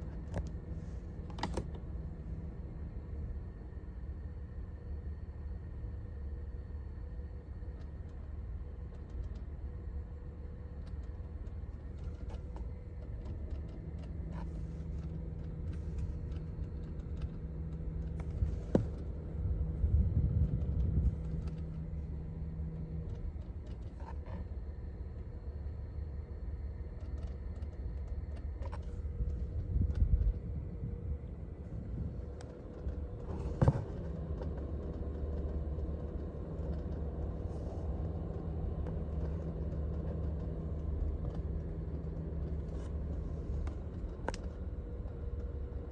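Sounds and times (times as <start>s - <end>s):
low cabin rumble: 0.0s - 45.9s.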